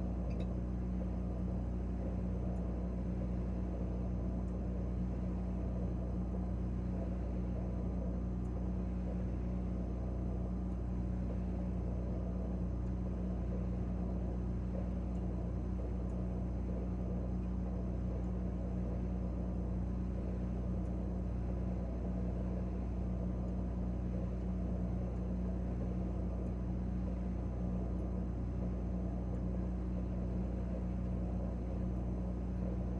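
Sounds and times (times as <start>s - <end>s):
refrigerator compressor humming: 0.0s - 32.9s.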